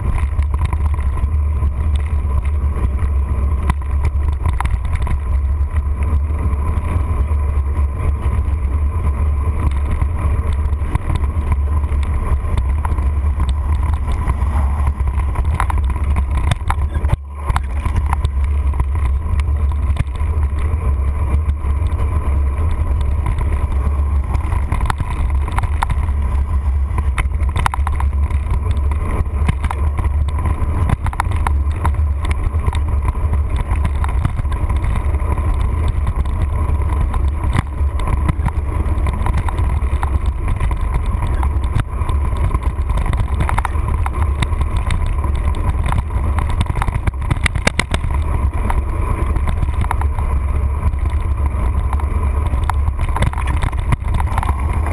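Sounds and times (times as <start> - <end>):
bike rattles and knocks: 0.0 - 54.9
wind rumble on microphone: 0.0 - 54.9.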